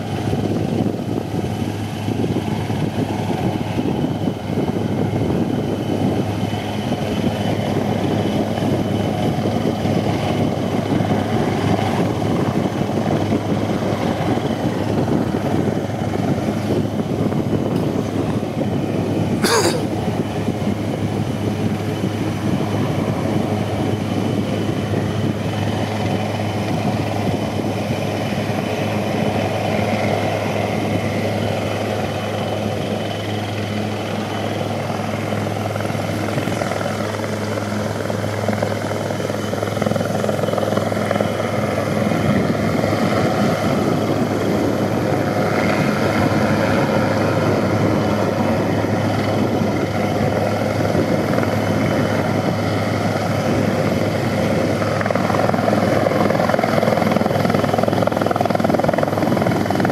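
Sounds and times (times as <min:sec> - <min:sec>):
helicopter hovering: 0:00.0 - 0:59.9.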